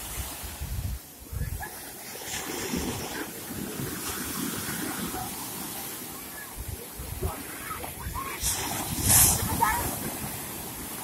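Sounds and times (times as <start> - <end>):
surf washing on shore: 0.0 - 11.0
wind gusting on microphone: 0.0 - 11.0.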